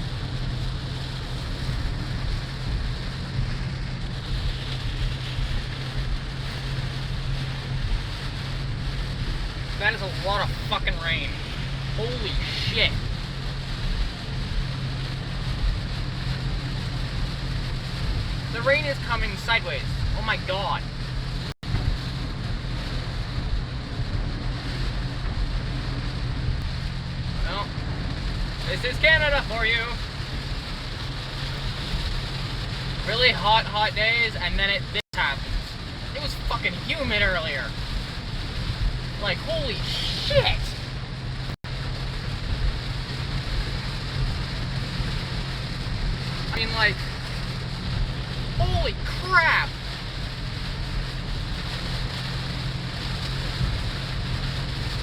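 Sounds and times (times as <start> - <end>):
heavy rain on a car: 0.0 - 55.0
road and engine hum: 0.0 - 55.0.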